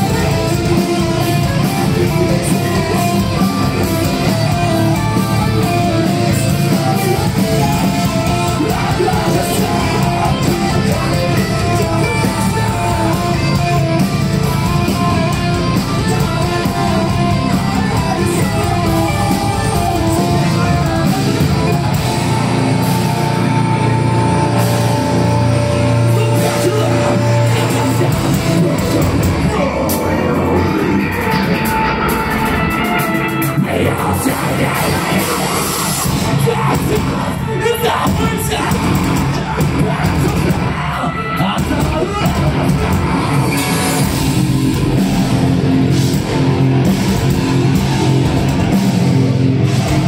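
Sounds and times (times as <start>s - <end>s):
person singing: 0.0s - 45.4s
bass guitar: 0.0s - 50.0s
distorted electric guitars: 0.0s - 50.0s
drums: 0.0s - 50.0s.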